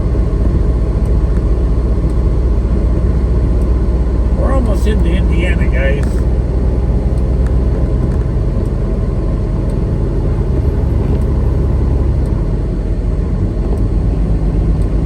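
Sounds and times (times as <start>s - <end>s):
diesel engine drone: 0.0s - 15.0s
road rumble: 0.0s - 15.0s.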